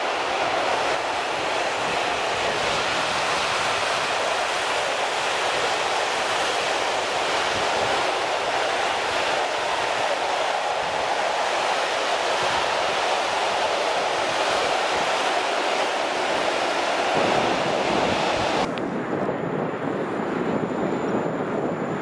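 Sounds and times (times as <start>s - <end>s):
freight train wheels rolling: 0.0s - 18.7s.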